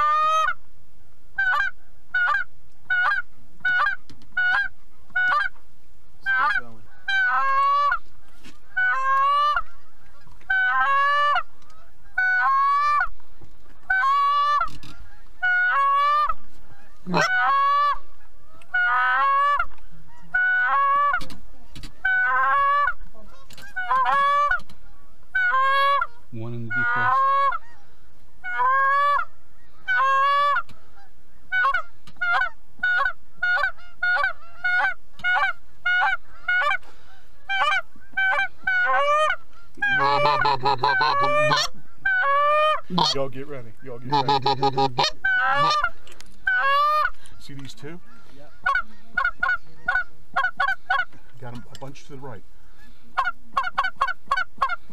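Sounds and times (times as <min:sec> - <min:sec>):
goose honking: 0:00.0 - 0:00.6, 0:01.4 - 0:05.6, 0:06.2 - 0:13.1, 0:13.7 - 0:54.9.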